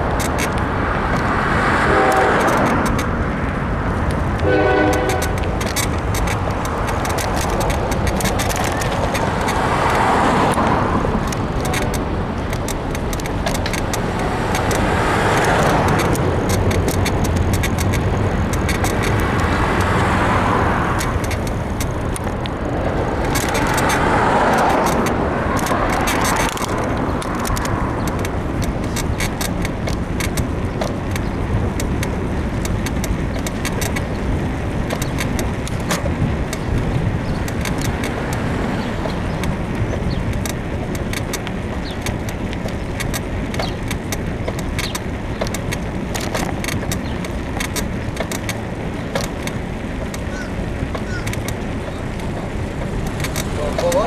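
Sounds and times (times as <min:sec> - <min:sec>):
bicycle frame creaking and clicking: 0:00.0 - 0:54.0
car passing: 0:00.0 - 0:54.0
wind and road noise: 0:00.0 - 0:54.0.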